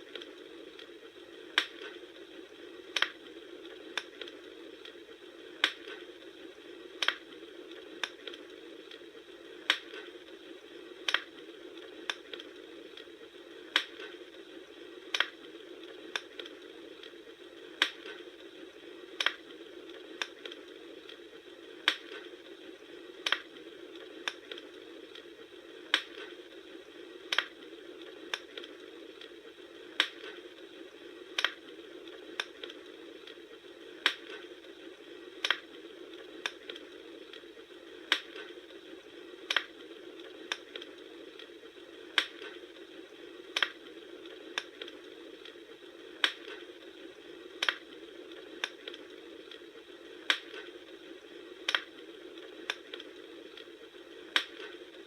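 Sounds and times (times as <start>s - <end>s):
campfire crackling pops: 0.0s - 55.0s
flames hissing: 0.0s - 55.0s.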